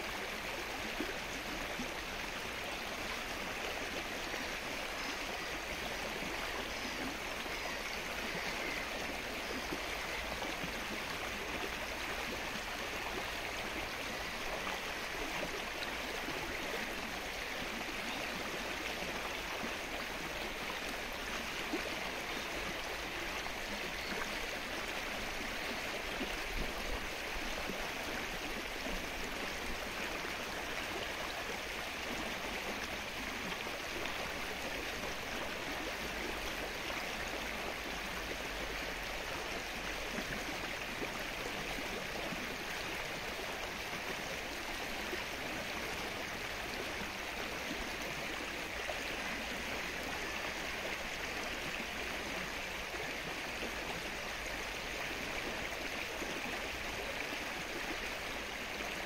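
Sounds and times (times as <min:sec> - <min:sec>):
rain falling on water: 0:00.0 - 0:59.0.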